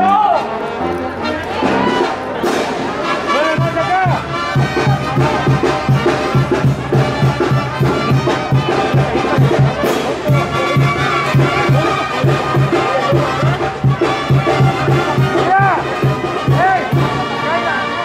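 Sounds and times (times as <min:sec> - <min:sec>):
brass band music: 0:00.0 - 0:18.0.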